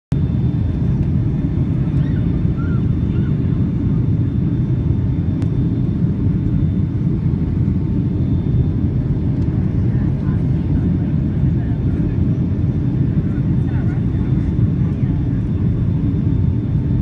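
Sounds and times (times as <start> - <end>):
airplane engines rumbling: 0.1 - 17.0.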